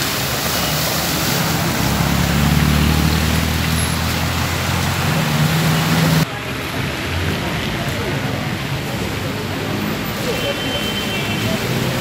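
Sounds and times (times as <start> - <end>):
tyres splashing through water: 0.0 - 12.0
water wash noise: 0.0 - 12.0.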